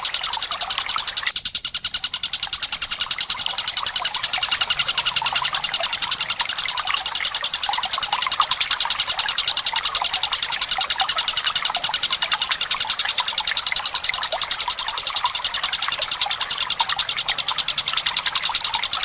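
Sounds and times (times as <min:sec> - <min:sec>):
water trickling: 0:00.0 - 0:01.3, 0:01.9 - 0:19.0
bird rattling trill: 0:00.0 - 0:19.0.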